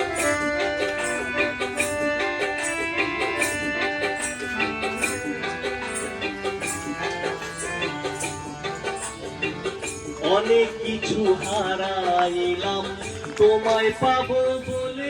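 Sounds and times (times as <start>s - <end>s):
folk melody line: 0.0s - 15.0s
hand percussion and rattles: 0.0s - 15.0s.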